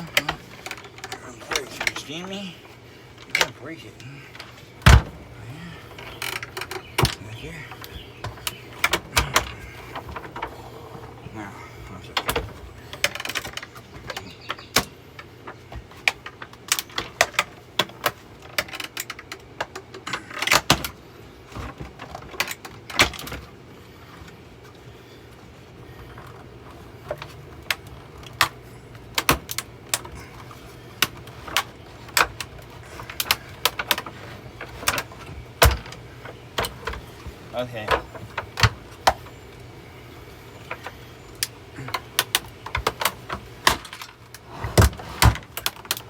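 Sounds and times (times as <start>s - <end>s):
vacuum cleaner parts rattling: 0.0s - 46.0s.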